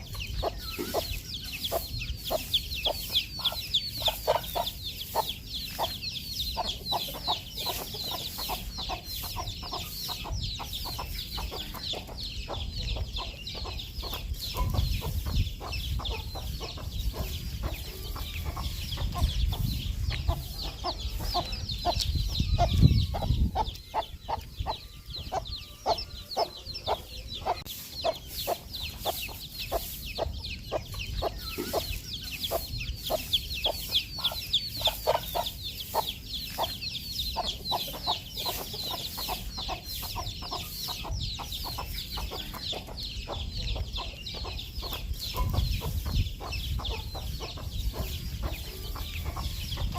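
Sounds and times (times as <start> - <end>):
baby chicks peeping: 0.0 - 49.9
hen clucking: 0.0 - 49.9.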